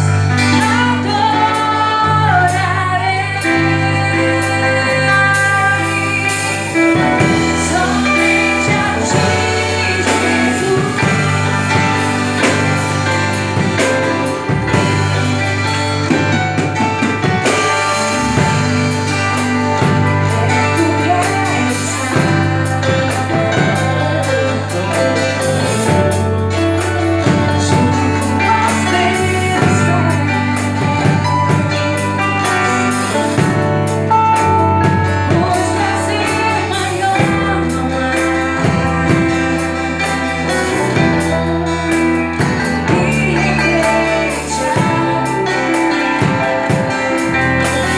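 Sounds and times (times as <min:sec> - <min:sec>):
bass line: 0:00.0 - 0:47.9
drums: 0:00.0 - 0:47.9
gospel band playing: 0:00.0 - 0:47.9
voices singing: 0:00.0 - 0:47.9.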